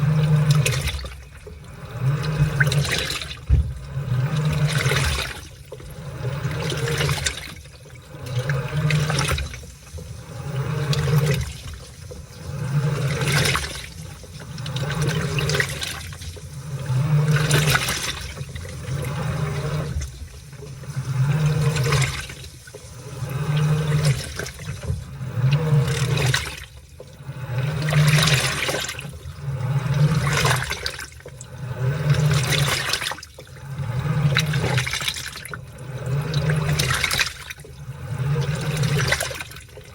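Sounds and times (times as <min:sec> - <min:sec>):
washing machine motor humming: 0:00.0 - 0:39.9
water sloshing: 0:00.0 - 0:39.9.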